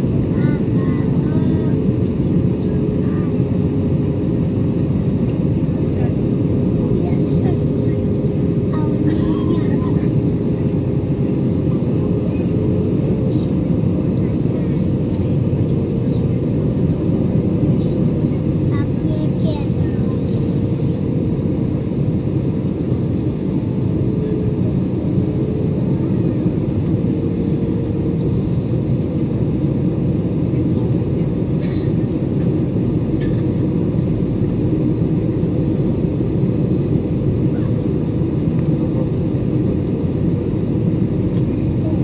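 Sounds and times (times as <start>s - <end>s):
airliner cabin engine roar: 0.0s - 42.0s.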